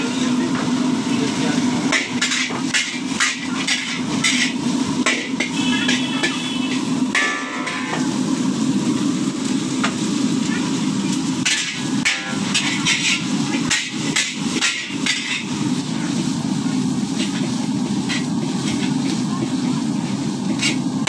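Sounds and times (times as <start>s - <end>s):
utensils clanging against wok: 0.0s - 8.2s, 9.7s - 21.0s
burner noise: 0.0s - 21.0s
frying sizzle: 0.0s - 21.0s.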